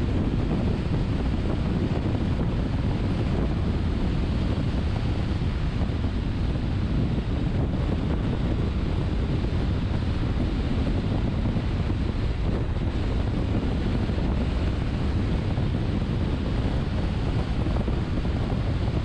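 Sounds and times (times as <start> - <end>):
rushing air: 0.0 - 19.0.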